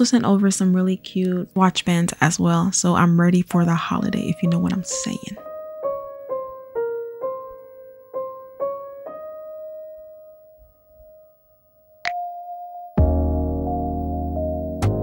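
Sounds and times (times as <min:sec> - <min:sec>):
soft piano melody: 0:00.0 - 0:15.0.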